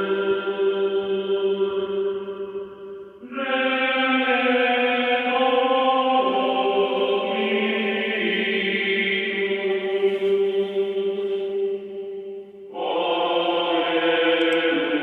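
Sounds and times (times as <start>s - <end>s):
chant-like drone: 0.0s - 15.0s.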